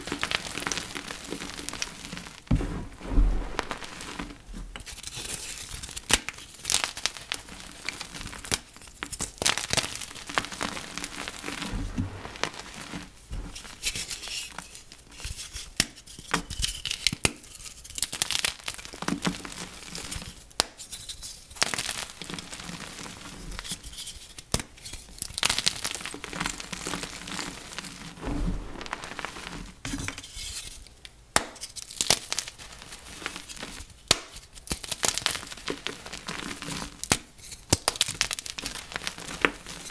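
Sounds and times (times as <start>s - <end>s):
chalk crackling and crunching: 0.0s - 30.9s, 31.5s - 39.9s.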